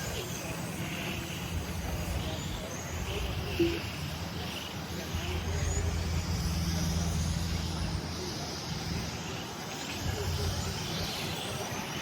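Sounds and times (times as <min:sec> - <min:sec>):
rc car motors whining: 0:00.0 - 0:12.0
steady low hum: 0:00.0 - 0:12.0.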